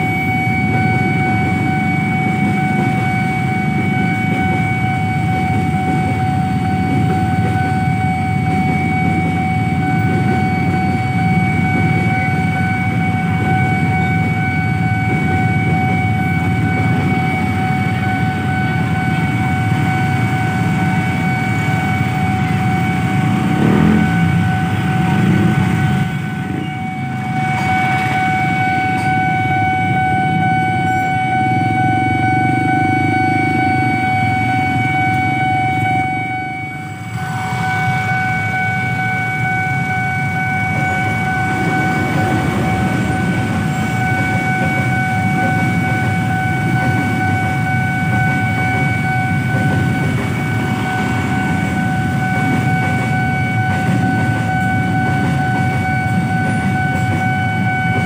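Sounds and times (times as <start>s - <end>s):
level crossing warning tone: 0.0s - 58.0s
motorbikes idling: 0.0s - 58.0s
passing train: 0.0s - 58.0s.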